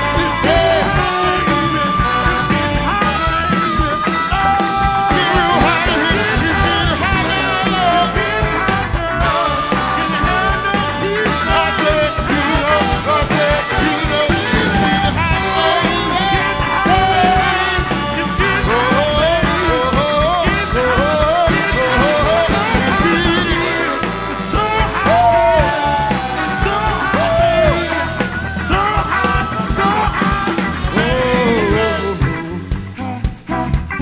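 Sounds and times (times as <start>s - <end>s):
live band music: 0.0s - 34.0s
person singing: 0.0s - 34.0s
wavering lead melody: 0.0s - 34.0s.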